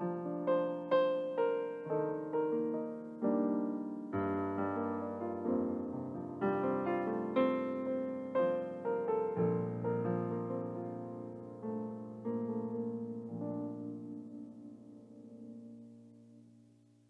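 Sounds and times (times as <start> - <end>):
slow solo piano piece: 0.0 - 17.0.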